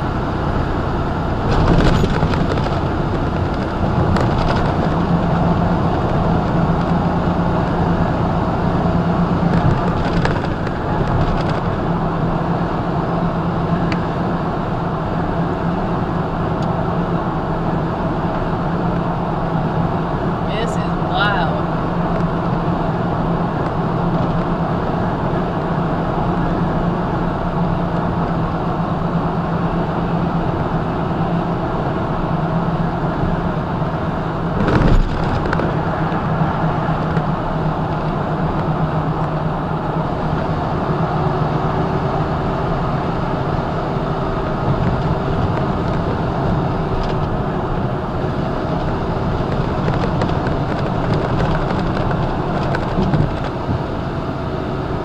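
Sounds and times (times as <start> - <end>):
diesel engine drone: 0.0 - 55.0
tyre and road noise: 0.0 - 55.0.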